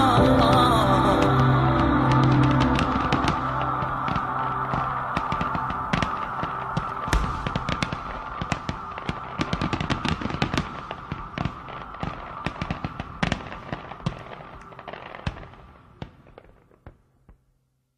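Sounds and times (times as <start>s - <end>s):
crackling hiss: 0.0s - 17.4s
fireworks cracking and popping: 0.0s - 17.4s.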